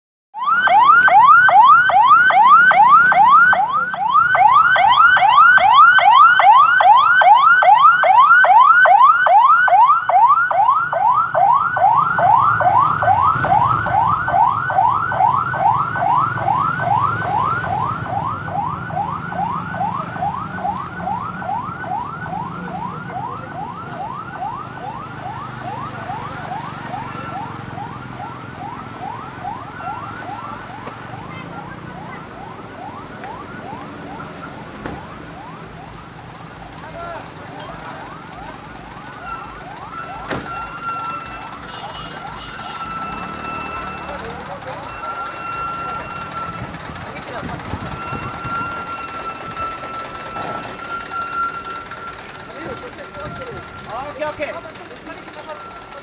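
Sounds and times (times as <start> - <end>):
electronic siren whooping: 0.4 - 41.6, 42.2 - 54.3
low engine rumble: 0.4 - 56.0.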